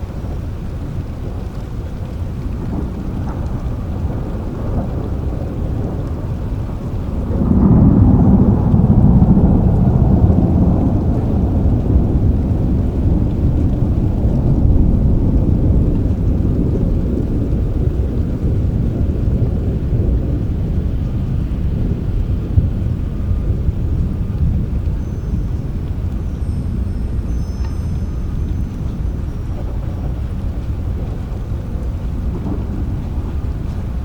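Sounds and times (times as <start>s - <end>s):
steady rain: 0.0s - 34.0s
thunder rolling: 0.0s - 34.0s.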